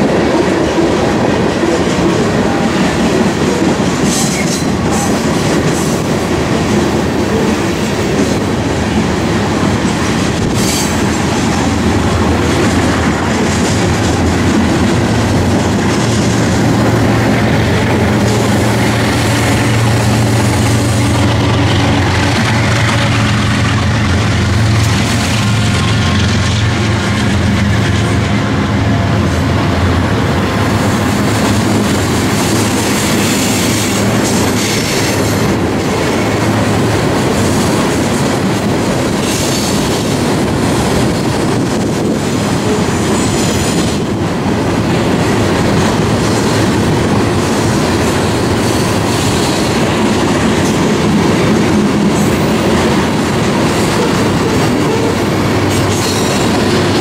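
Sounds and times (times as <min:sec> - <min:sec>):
diesel locomotive engine drone: 0:00.0 - 0:57.0
train wheel clatter: 0:00.0 - 0:57.0.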